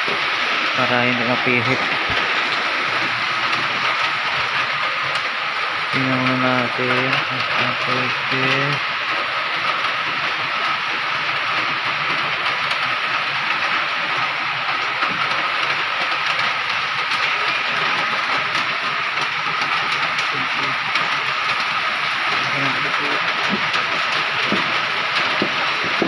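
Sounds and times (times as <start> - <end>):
mechanical noise with high whine: 0.0 - 26.0.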